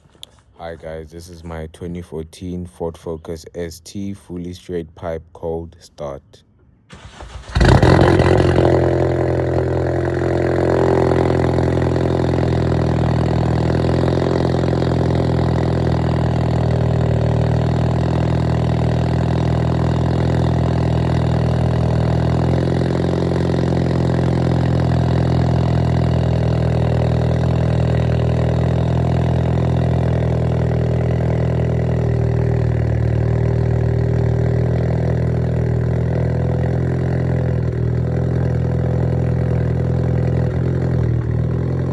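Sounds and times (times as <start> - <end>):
car engine cold start and idle: 6.9 - 41.9.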